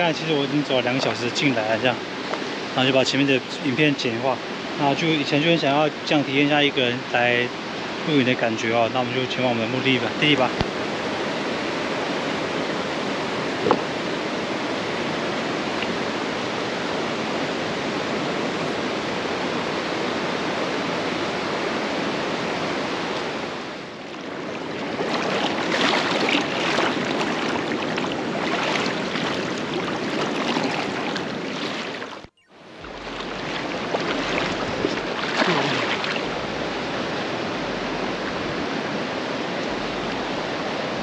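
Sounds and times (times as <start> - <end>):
mountain stream rushing: 0.0 - 41.0.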